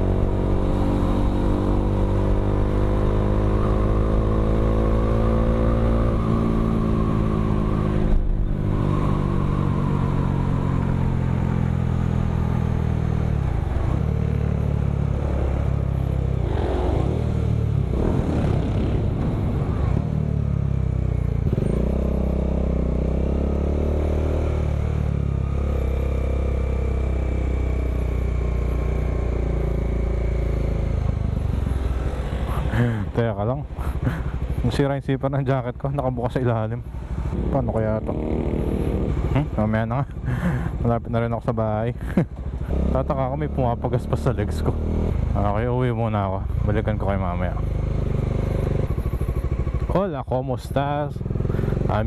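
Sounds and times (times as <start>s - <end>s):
motorcycle engine running: 0.0s - 34.7s, 35.8s - 52.0s.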